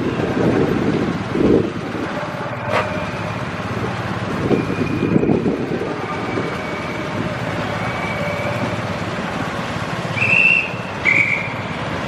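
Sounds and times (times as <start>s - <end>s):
road noise: 0.0s - 12.0s
vehicle engines running: 0.0s - 12.0s.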